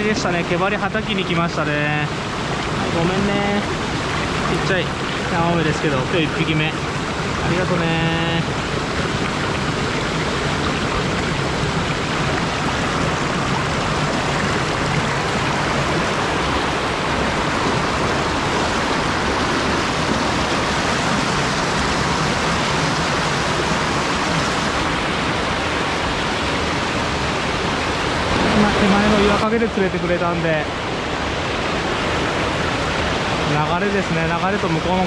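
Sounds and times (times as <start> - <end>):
stream rushing over rocks: 0.0 - 35.0.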